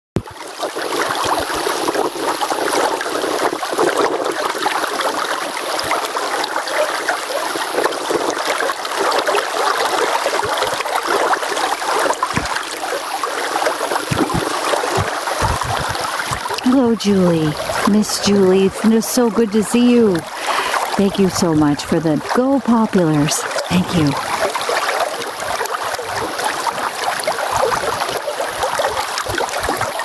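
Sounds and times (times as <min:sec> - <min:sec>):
stream water flowing: 0:04.5 - 0:30.0.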